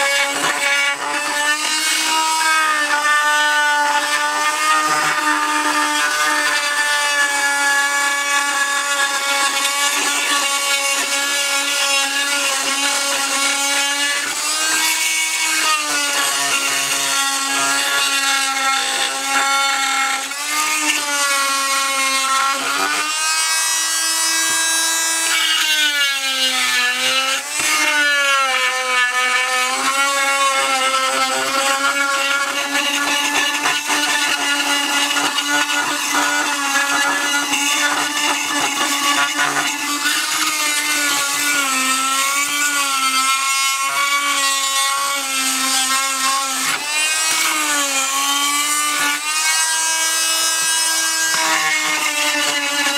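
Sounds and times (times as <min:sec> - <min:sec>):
oscillating multi-tool scraping tile: 0:00.0 - 0:52.9.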